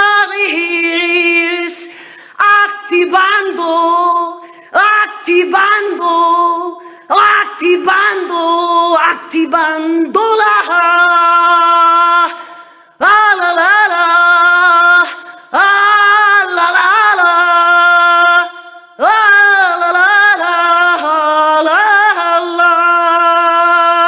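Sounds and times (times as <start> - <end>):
woman chanting: 0.0 - 12.4, 13.0 - 24.0.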